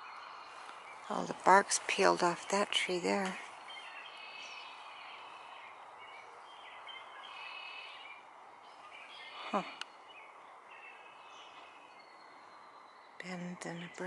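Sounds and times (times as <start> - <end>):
birds calling and singing: 0.0 - 14.0
steady background hiss: 0.0 - 14.0.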